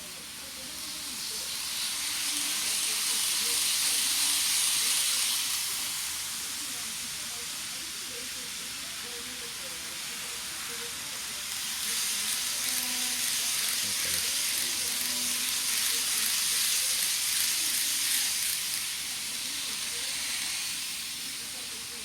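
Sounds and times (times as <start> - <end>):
model train wheels hissing: 0.0 - 22.0.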